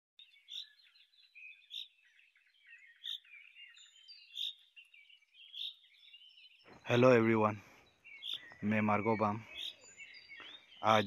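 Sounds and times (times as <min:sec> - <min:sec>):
birds chirping and singing: 0:00.2 - 0:11.0.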